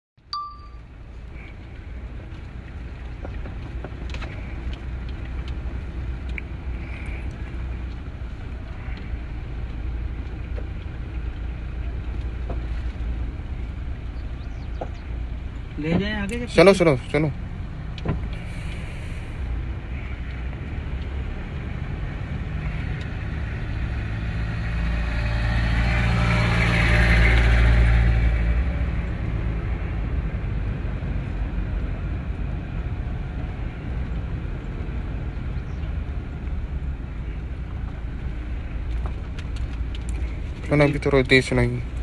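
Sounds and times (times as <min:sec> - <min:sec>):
road noise: 0:00.2 - 0:42.0
vehicle engine hum: 0:00.2 - 0:42.0.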